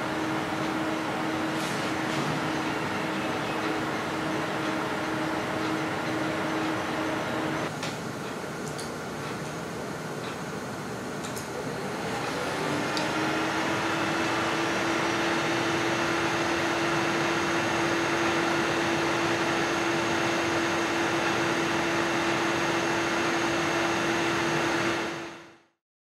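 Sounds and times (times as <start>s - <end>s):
computer fans rushing air: 0.0s - 25.5s
fan hum: 0.0s - 25.7s.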